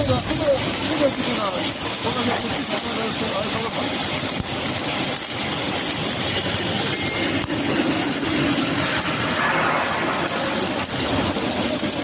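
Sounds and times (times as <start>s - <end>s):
welding arc crackling hiss: 0.0s - 12.0s.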